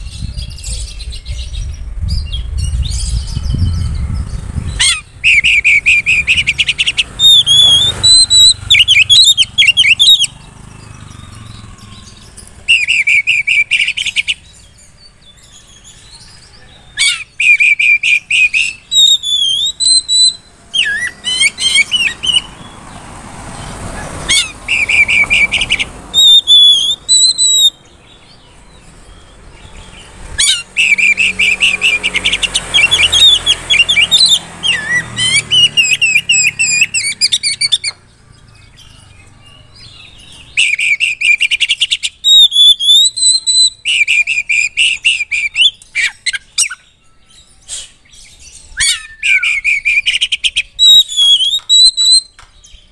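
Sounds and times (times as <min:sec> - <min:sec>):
bird singing chattering and whistling: 0:00.0 - 0:52.9.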